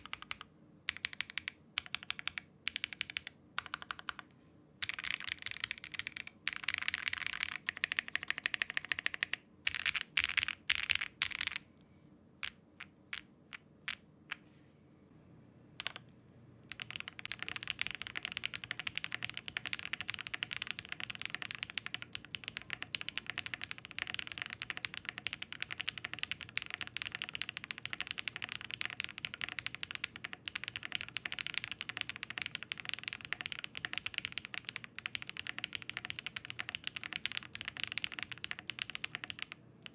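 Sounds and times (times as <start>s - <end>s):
mechanical keyboard typing: 0.0s - 11.6s, 15.8s - 16.0s, 16.7s - 39.9s.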